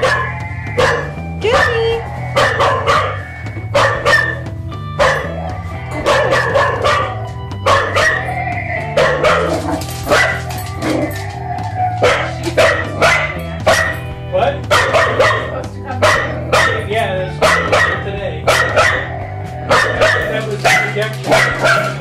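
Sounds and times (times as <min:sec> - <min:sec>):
background music: 0:00.0 - 0:22.0
dog barking: 0:00.0 - 0:22.0.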